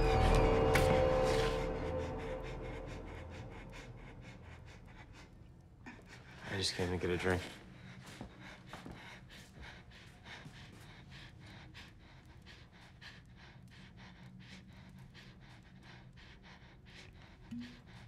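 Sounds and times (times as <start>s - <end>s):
woman breathing rapidly: 0.0s - 18.0s.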